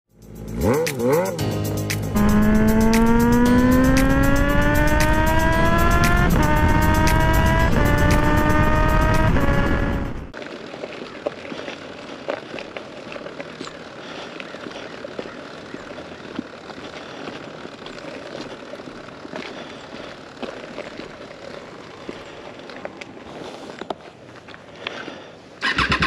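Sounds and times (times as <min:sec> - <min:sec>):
gravel crunching under tyres and boots: 0:02.2 - 0:25.9.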